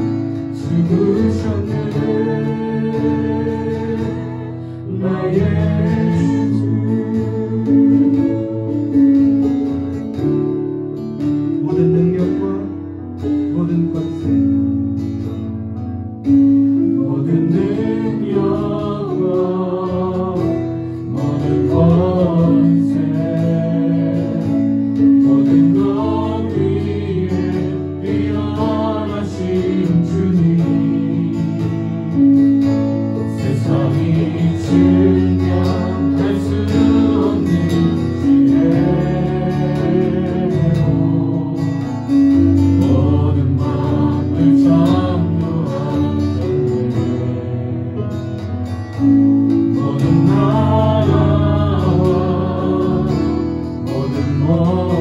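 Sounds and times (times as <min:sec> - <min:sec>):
voices singing together: 0:00.0 - 0:09.2, 0:16.8 - 0:55.0
acoustic guitar: 0:00.0 - 0:55.0.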